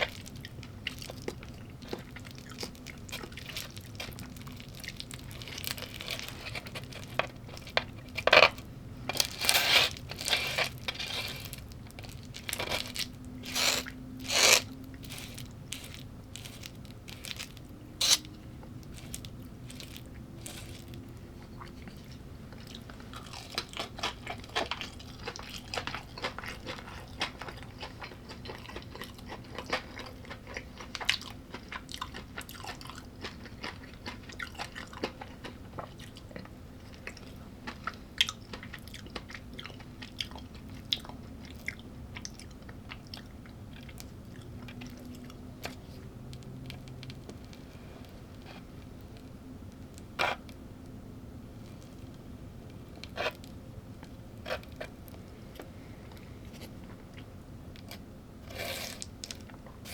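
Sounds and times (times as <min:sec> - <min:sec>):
person chewing crunchy food: 0:00.0 - 0:50.6, 0:51.6 - 0:59.9.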